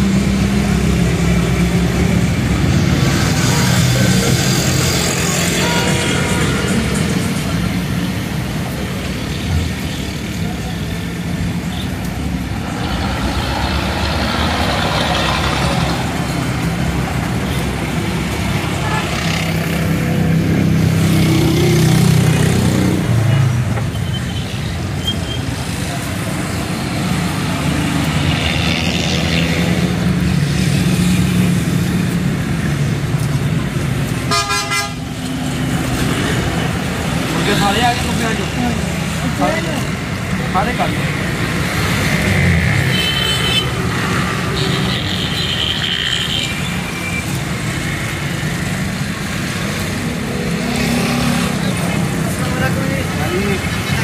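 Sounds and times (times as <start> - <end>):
traffic noise: 0.0 - 54.0.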